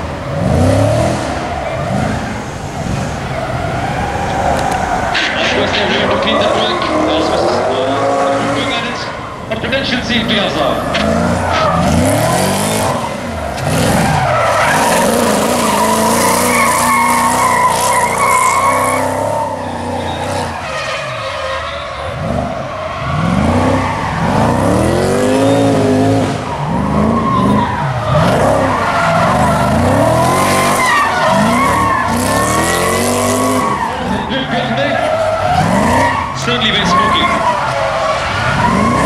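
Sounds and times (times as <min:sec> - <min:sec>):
car engine revving: 0:00.0 - 0:39.0
tyres squealing and skidding: 0:00.0 - 0:39.0.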